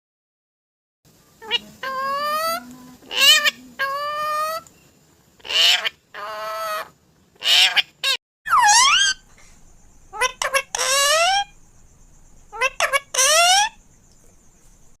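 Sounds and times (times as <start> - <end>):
parrot calling: 1.4 - 4.7, 5.4 - 15.0.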